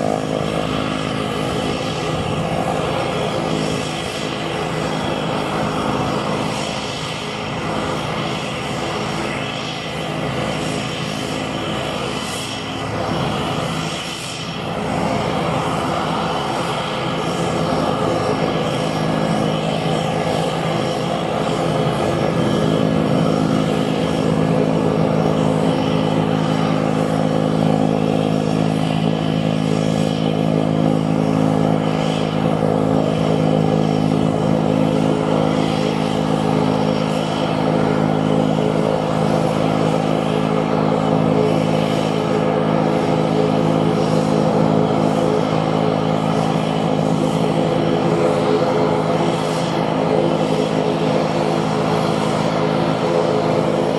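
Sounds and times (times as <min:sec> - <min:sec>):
turboprop propeller drone: 0:00.0 - 0:53.9.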